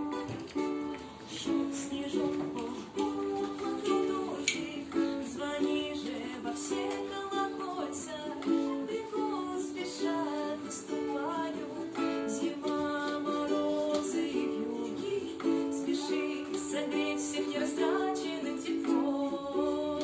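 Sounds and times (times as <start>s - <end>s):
plucked string instrument: 0.0s - 20.0s.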